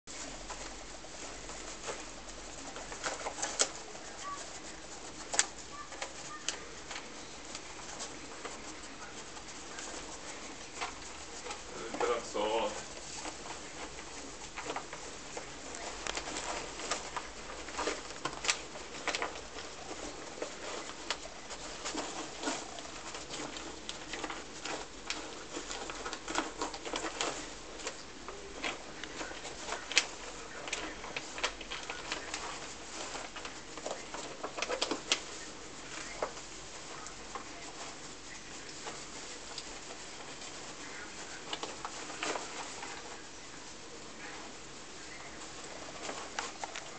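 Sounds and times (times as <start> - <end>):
dry hay rustling and crackling: 0.1 - 46.9.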